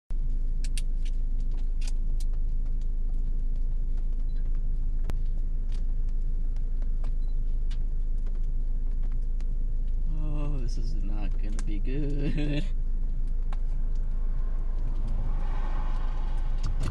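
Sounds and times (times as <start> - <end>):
vehicle idling: 0.2 - 16.9.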